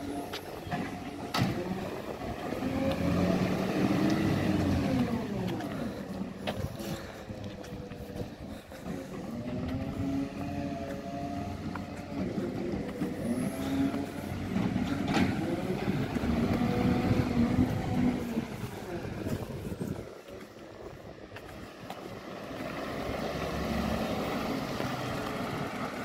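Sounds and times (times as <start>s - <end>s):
diesel truck engine driving off: 0.0s - 20.8s, 21.7s - 26.0s.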